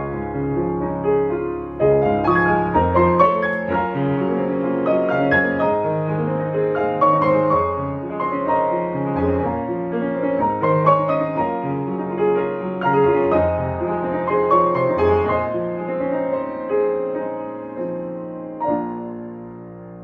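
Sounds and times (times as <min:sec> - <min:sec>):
gentle piano piece: 0:00.0 - 0:20.0.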